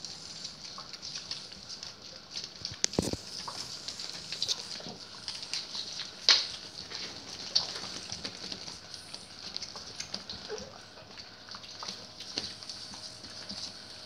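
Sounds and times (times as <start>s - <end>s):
dogs snuffling: 0.0s - 14.0s
small clicks and ticks: 0.0s - 14.0s.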